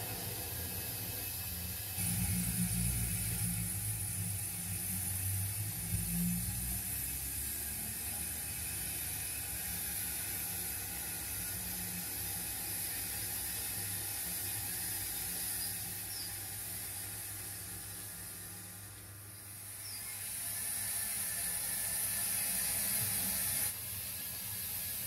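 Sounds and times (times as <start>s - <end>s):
model train motor whirring: 0.0s - 25.0s.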